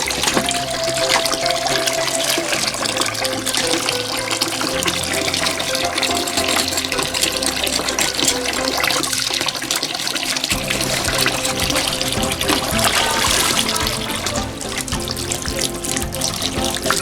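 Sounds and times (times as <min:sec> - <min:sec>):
background music with bassline: 0:00.0 - 0:17.0
water splashing and sloshing: 0:00.0 - 0:17.0.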